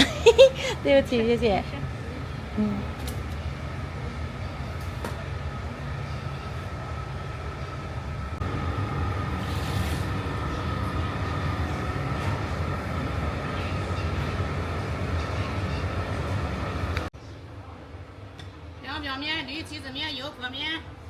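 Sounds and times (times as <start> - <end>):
high whine: 0.0 - 17.1.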